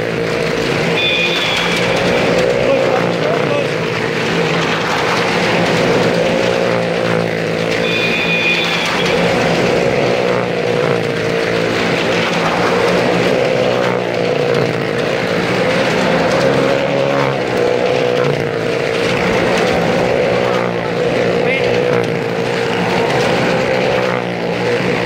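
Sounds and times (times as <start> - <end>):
motorcycle and car engines droning: 0.0 - 25.0.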